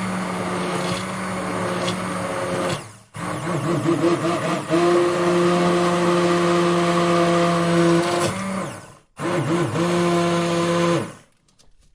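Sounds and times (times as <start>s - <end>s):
electric blender motor running: 0.0s - 11.3s.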